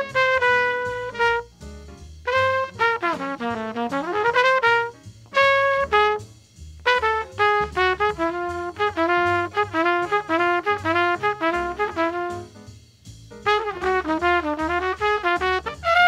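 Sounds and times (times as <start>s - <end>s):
trumpet jazz solo: 0.0s - 12.7s, 13.3s - 16.0s.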